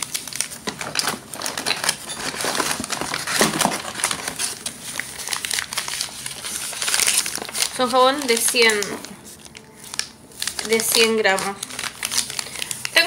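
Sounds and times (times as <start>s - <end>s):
paper wrapping crinkling: 0.0s - 13.0s.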